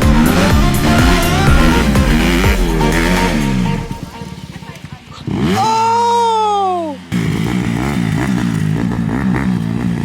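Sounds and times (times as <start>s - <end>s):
dirt bike engine revving: 0.0s - 6.3s, 7.1s - 10.0s.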